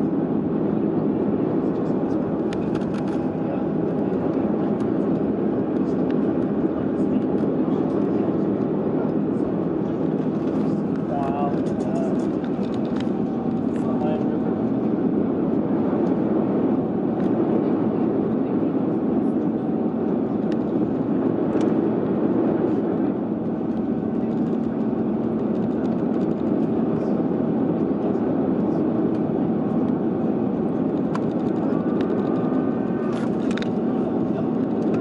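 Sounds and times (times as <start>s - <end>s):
jet engine and airflow rush: 0.0s - 35.0s.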